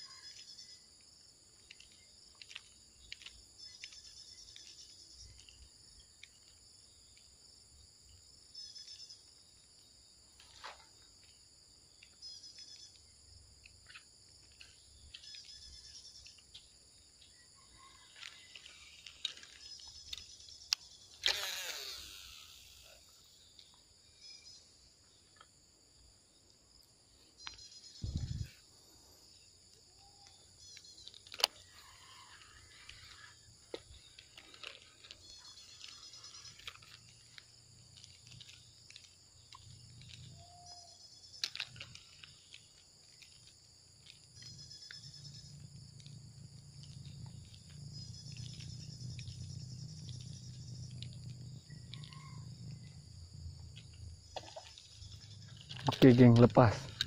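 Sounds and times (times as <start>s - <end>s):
insects calling high-pitched: 0.0s - 57.0s
small ticks: 0.0s - 57.0s.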